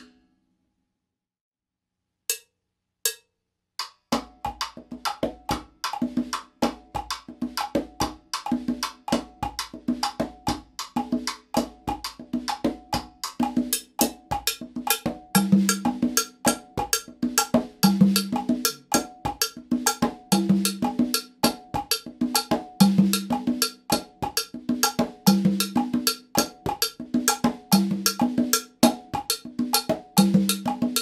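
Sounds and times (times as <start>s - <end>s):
conga drumming: 3.8s - 31.0s.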